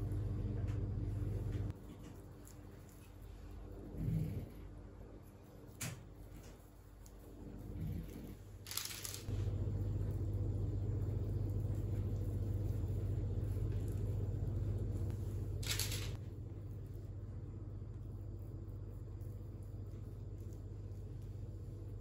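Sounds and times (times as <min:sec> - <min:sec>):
appliance humming: 0:00.0 - 0:22.0.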